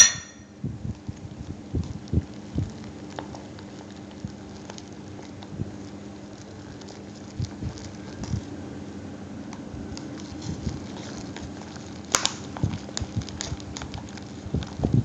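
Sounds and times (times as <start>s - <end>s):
stick stirring slime in cup: 0.9s - 8.5s, 9.9s - 15.0s.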